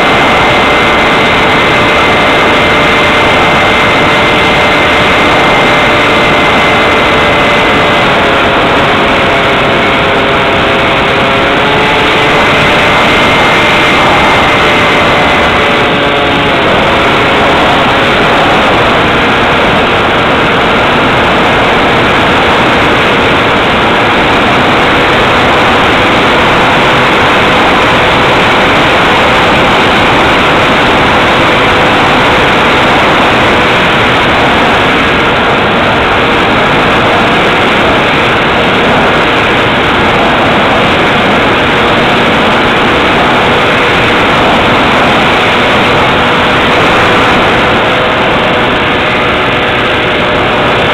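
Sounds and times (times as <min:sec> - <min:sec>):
electric motor and propeller: 0:00.0 - 0:50.9
faint steady whine: 0:00.0 - 0:50.9
rushing air: 0:00.0 - 0:50.9.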